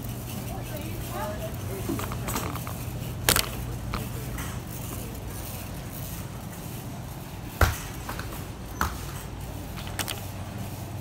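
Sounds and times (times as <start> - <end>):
distant voices: 0.0 - 11.0
steady low hum: 0.0 - 11.0.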